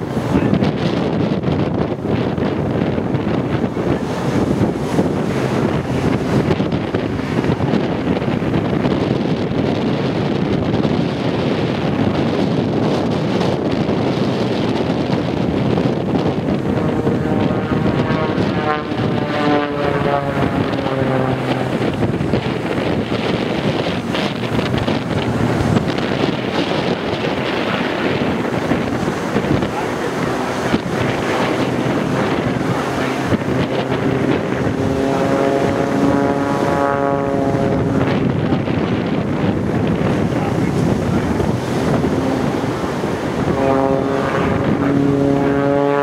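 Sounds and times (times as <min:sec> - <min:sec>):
propeller plane engine drone: 0:00.0 - 0:46.0
wind buffeting microphone: 0:00.0 - 0:46.0.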